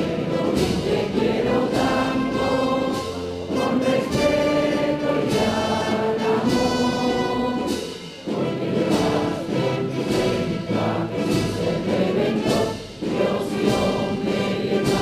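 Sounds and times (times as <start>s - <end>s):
orchestral music with sustained notes: 0.0s - 15.0s.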